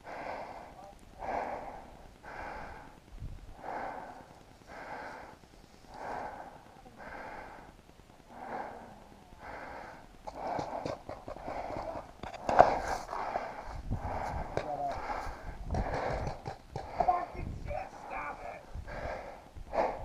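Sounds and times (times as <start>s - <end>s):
person breathing fast: 0.0s - 20.0s.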